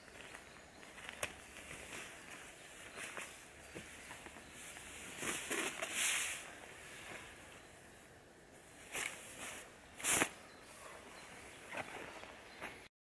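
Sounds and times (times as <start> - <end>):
hammock fabric rustling: 0.0 - 7.8, 8.5 - 12.6.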